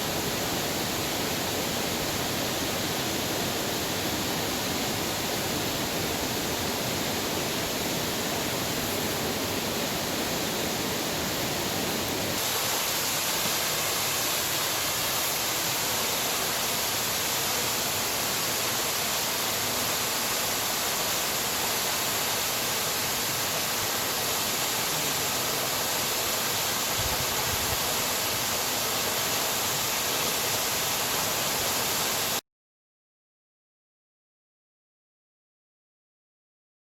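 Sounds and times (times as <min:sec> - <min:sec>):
waterfall rushing: 0:00.0 - 0:32.4.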